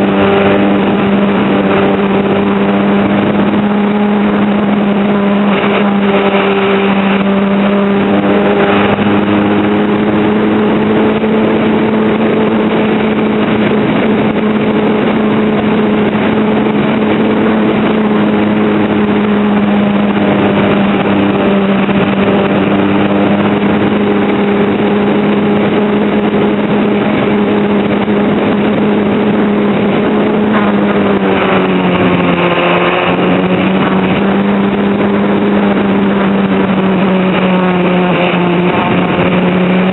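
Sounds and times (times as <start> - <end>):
rushing noise: 0.0 - 39.9.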